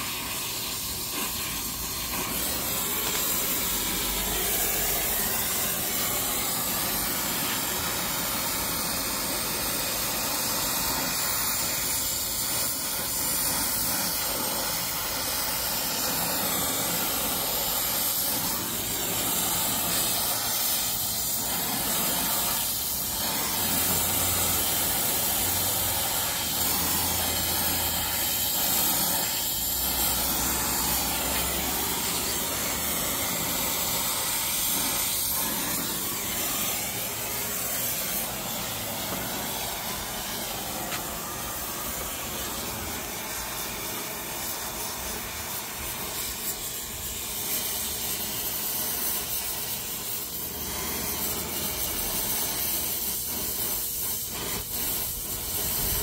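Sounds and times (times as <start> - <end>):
torch flame hissing: 0.0 - 56.0.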